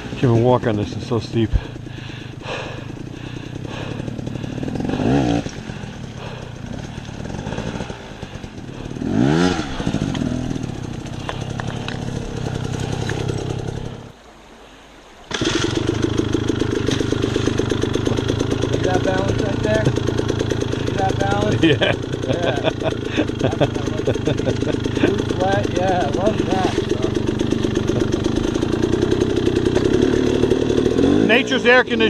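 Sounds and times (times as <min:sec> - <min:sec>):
dirt bike engine revving: 0:00.0 - 0:14.1, 0:15.3 - 0:32.0.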